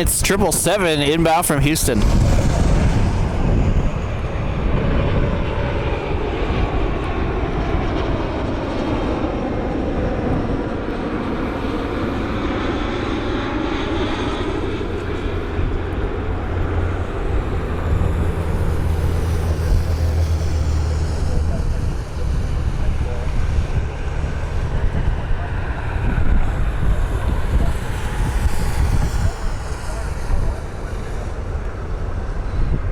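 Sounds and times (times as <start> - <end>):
jet airliner engine rushing: 0.0 - 32.9.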